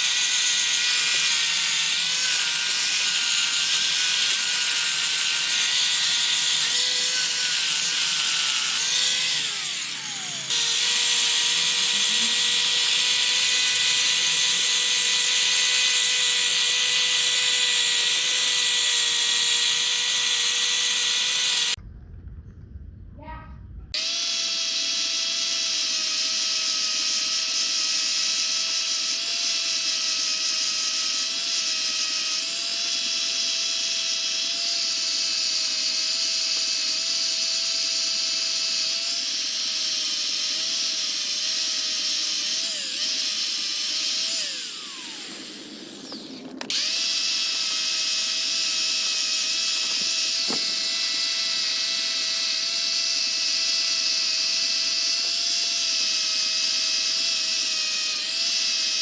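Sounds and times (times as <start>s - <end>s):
power tool whining: 0.0s - 21.8s, 24.0s - 59.0s.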